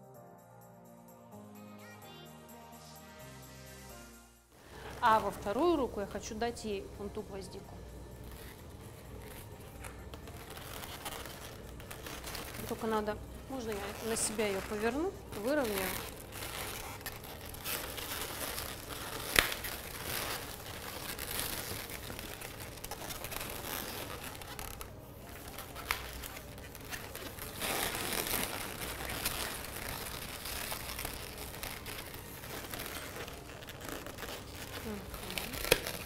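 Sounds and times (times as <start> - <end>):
balloons rubbing and rustling: 4.6 - 36.0.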